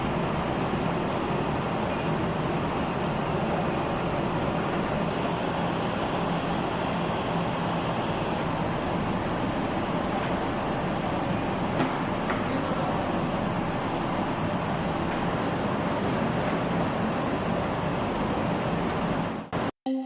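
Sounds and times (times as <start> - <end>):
factory machinery running: 0.0 - 19.7
faint hum: 0.0 - 20.0.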